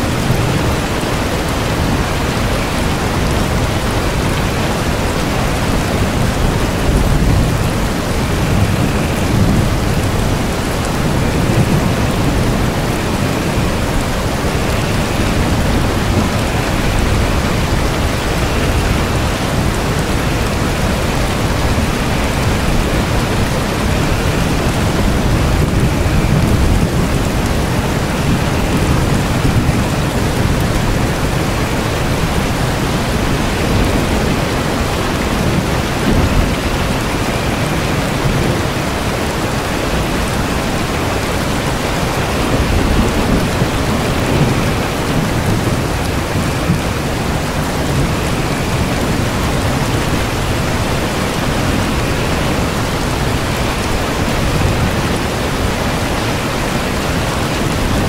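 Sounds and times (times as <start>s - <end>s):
heavy rain: 0.0s - 58.0s
thunder rumbling: 0.0s - 58.0s.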